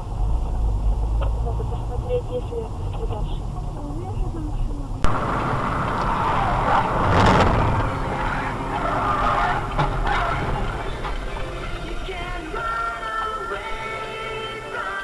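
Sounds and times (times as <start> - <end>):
car tyres skidding and squealing: 0.0 - 15.0.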